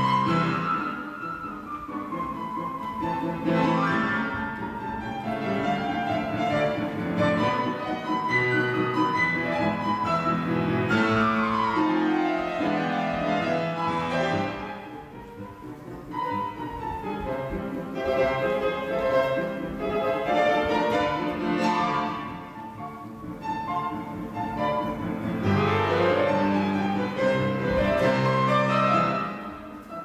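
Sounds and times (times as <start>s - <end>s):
classical music with strings: 0.0s - 30.0s.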